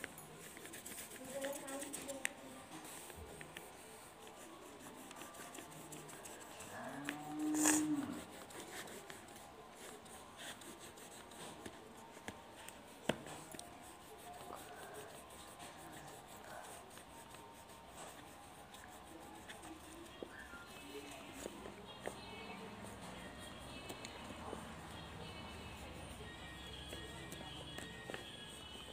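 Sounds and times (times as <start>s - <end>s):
pencil scratching on paper: 0.0s - 28.9s.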